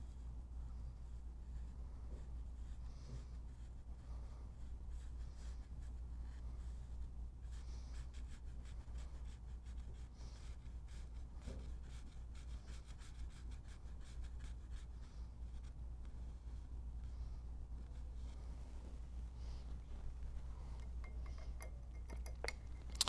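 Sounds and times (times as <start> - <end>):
brush stroking on paper: 0.0 - 23.0
steady low hum: 0.0 - 23.0.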